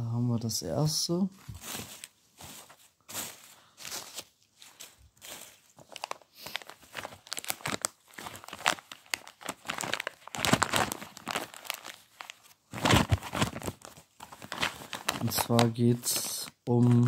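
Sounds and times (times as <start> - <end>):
paper crinkling and rustling: 1.4 - 17.0.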